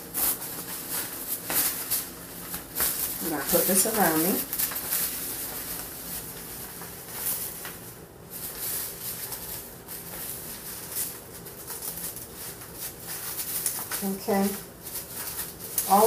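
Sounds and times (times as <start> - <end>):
plastic cape rustling: 0.0 - 16.0.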